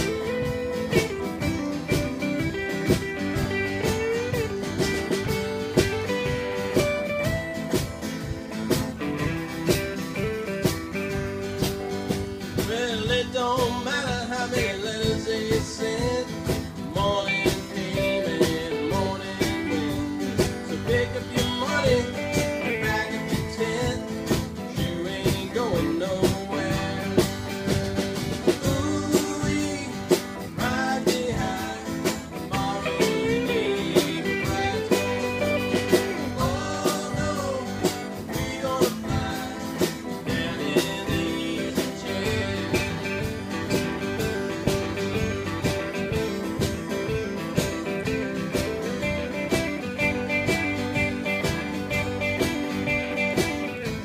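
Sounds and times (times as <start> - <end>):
electric guitars: 0.0 - 54.0
steady drum beat: 0.0 - 54.0.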